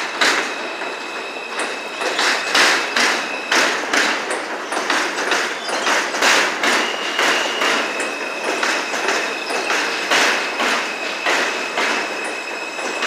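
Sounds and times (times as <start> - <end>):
train wheels clattering on rails: 0.0 - 13.0.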